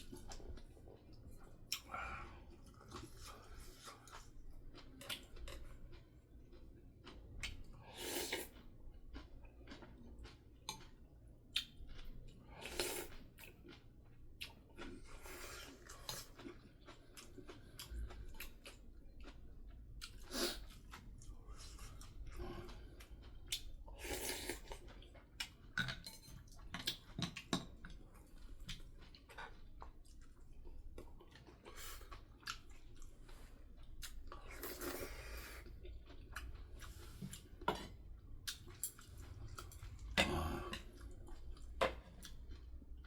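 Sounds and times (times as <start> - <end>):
person chewing and eating: 0.0 - 43.0.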